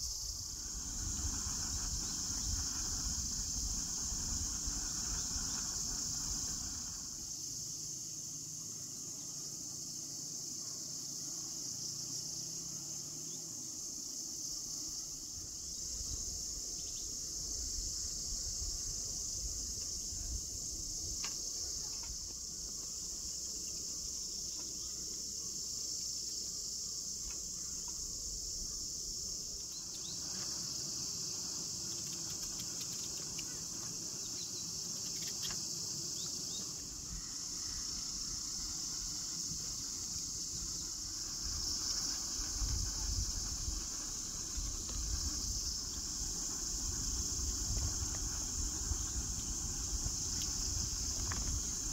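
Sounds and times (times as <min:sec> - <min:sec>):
insects droning shrilly: 0:00.0 - 0:51.9.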